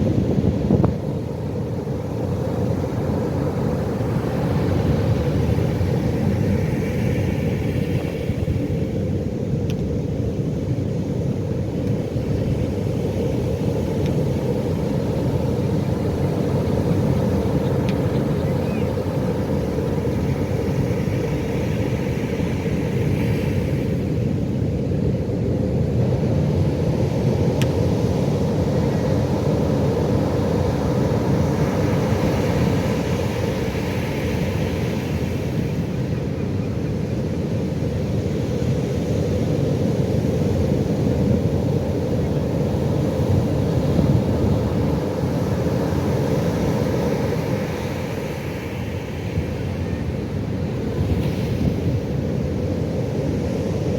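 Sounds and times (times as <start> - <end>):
ocean surf rumbling: 0.0 - 53.9
wind noise on microphone: 0.0 - 53.9.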